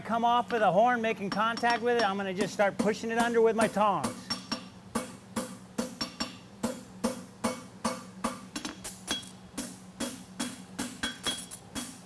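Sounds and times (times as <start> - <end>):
hammer striking horseshoe on anvil: 1.3 - 12.0.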